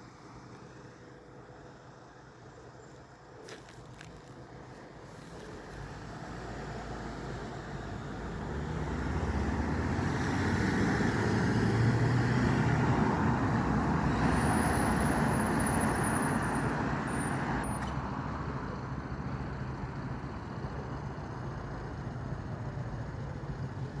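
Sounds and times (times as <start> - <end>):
diesel vehicle engine rumble: 0.0 - 24.0
road traffic noise: 0.0 - 24.0.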